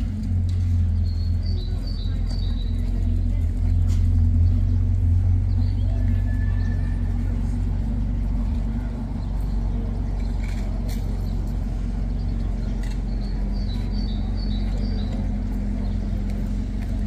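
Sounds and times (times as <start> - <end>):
city street rumble: 0.0 - 17.0
low hum: 0.0 - 17.0.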